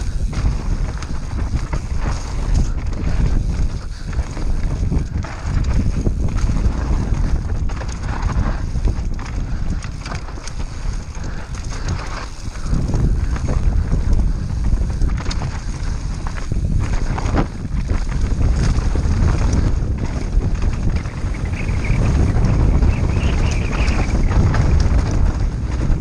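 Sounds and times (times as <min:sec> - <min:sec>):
bike frame and tyres rattling: 0:00.0 - 0:26.0
wind rushing over microphone: 0:00.0 - 0:26.0.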